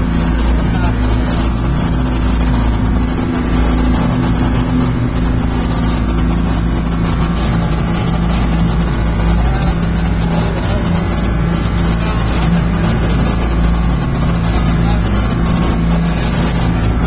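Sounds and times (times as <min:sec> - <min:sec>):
churning wake rushing: 0:00.0 - 0:17.0
ferry engine droning: 0:00.0 - 0:17.0.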